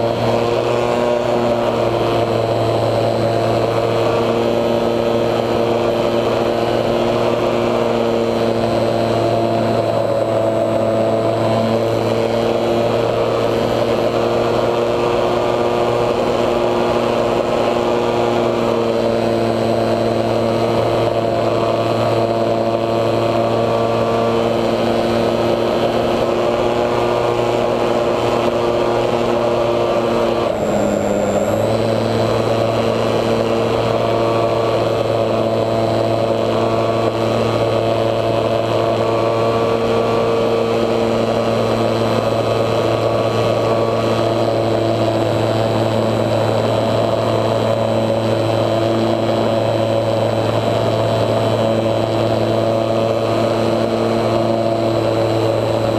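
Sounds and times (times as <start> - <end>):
model plane motor whining: 0.0 - 55.9.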